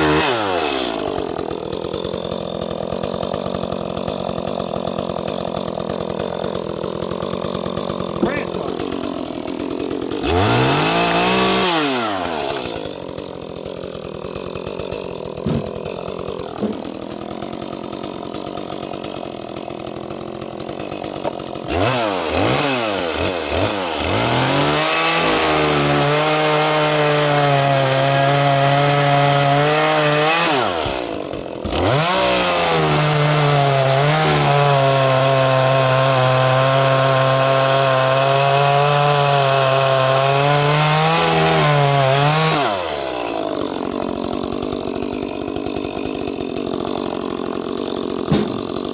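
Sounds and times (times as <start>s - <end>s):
chainsaw cutting wood: 0.0s - 48.9s
chainsaw engine revving: 0.0s - 48.9s.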